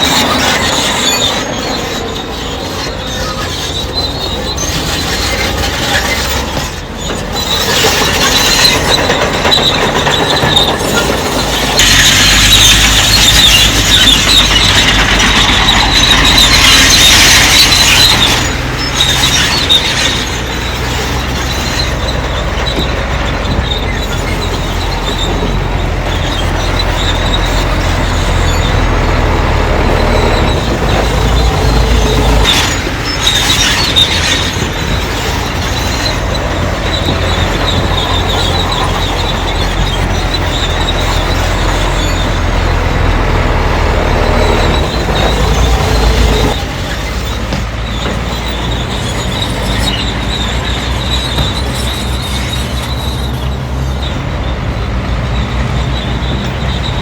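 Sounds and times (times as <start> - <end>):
bulldozer diesel engine under load: 0.0 - 57.0
steel tracks squealing and grinding: 0.0 - 57.0.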